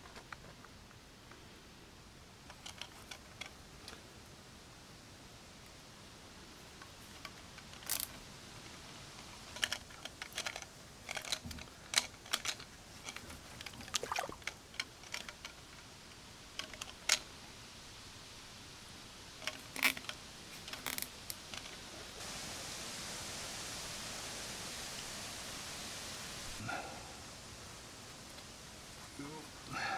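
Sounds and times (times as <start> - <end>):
faint steady hiss: 0.0 - 29.9.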